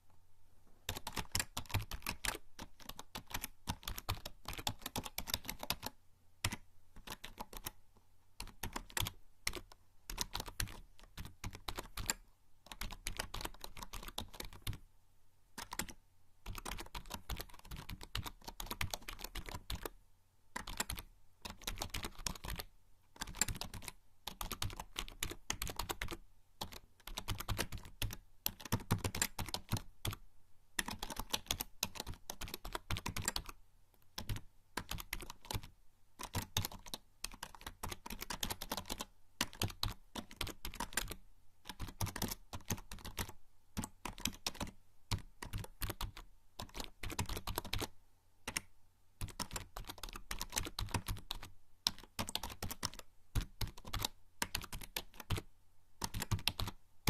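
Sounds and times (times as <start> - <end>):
typing on keyboard: 0.9 - 7.8, 8.4 - 14.8, 15.6 - 20.0, 20.6 - 30.2, 30.8 - 33.6, 34.2 - 47.9, 48.5 - 56.8.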